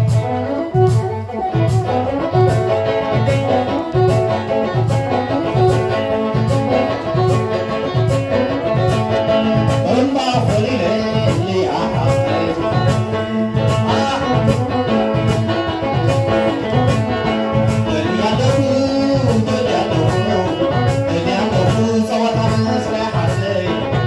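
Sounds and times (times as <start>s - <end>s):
drum beat: 0.0s - 24.0s
person singing: 0.0s - 24.0s
plucked strings: 0.0s - 24.0s.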